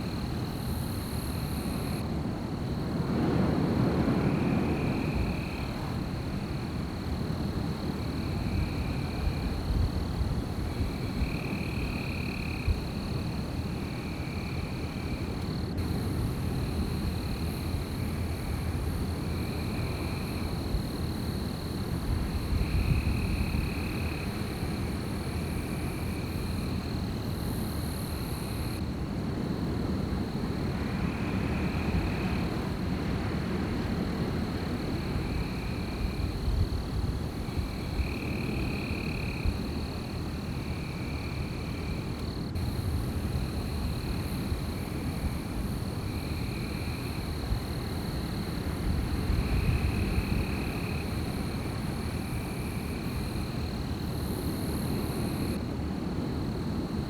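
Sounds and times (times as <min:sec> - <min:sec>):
strong wind through forest: 0:00.0 - 0:57.0.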